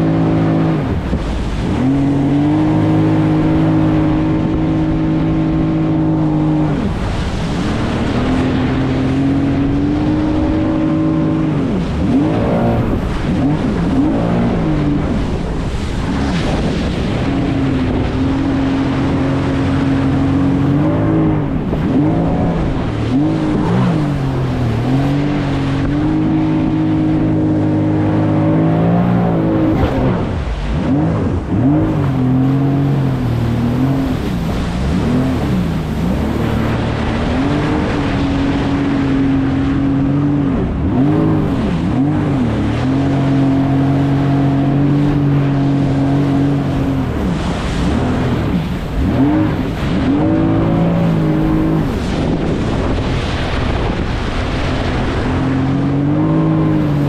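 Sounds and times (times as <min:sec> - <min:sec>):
jet ski engine running: 0:00.0 - 0:57.0
water rushing: 0:00.0 - 0:57.0
wind: 0:00.0 - 0:57.0.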